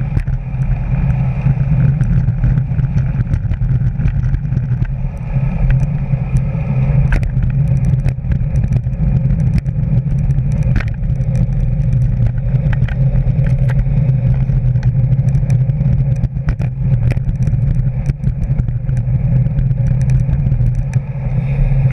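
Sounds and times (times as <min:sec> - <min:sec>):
bike clicks and rattles: 0:00.0 - 0:21.9
wind and road noise: 0:00.0 - 0:21.9.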